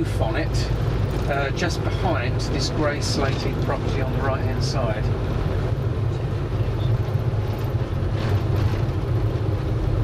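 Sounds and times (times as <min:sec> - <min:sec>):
bus engine and tyres droning: 0:00.0 - 0:10.0.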